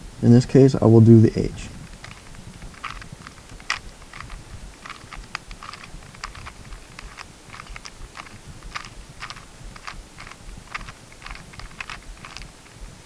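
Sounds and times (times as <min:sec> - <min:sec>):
plastic puzzle cube clicking: 0:01.8 - 0:12.6.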